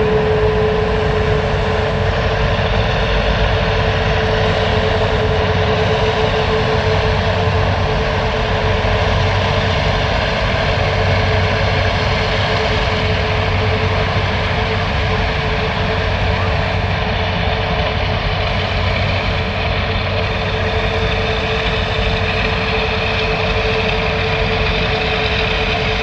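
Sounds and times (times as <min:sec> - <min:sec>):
jet engines rushing: 0:00.0 - 0:26.0
steady engine tone: 0:00.0 - 0:26.0.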